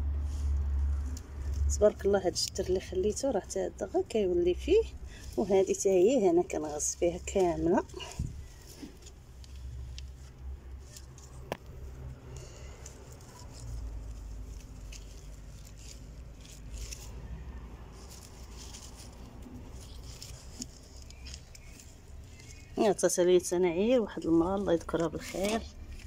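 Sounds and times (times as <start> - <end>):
leaves and soil rustling: 0.0 - 26.0
low steady rumble: 0.0 - 26.0.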